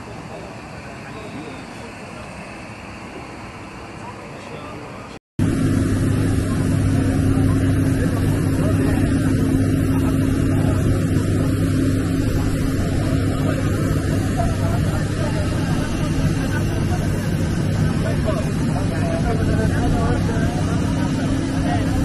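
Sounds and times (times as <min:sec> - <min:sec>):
jet airliner running: 0:00.0 - 0:22.0.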